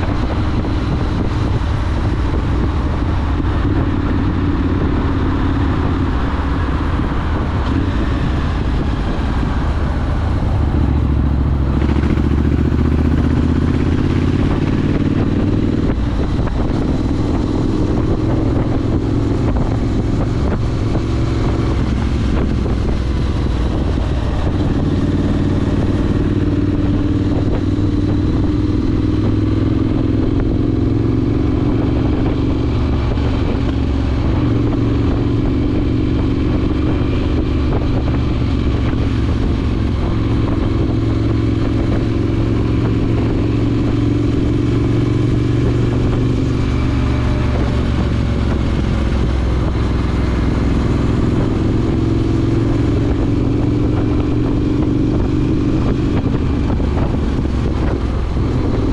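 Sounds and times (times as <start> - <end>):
motorcycle engine cruising: 0.0 - 58.9
wind and road noise: 0.0 - 58.9.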